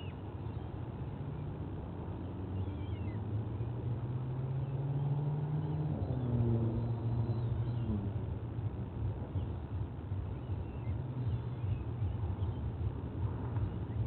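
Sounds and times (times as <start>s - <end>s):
distant engine droning: 0.0s - 14.0s.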